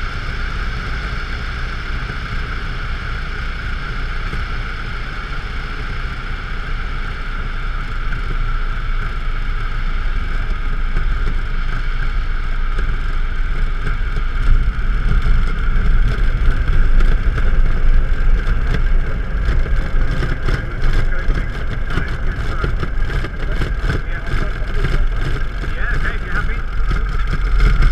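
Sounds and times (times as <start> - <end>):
light aircraft engine: 0.0 - 27.9
wheels rumbling on grass: 0.0 - 27.9.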